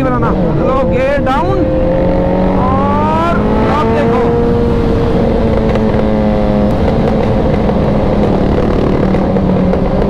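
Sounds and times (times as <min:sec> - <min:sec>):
motorcycle engine downshifting: 0:01.6 - 0:10.0.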